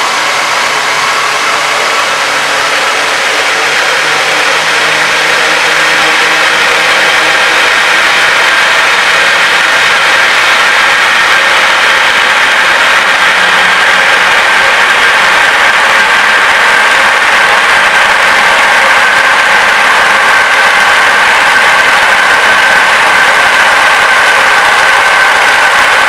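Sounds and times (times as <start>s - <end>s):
water rushing through valve: 0.0s - 26.0s.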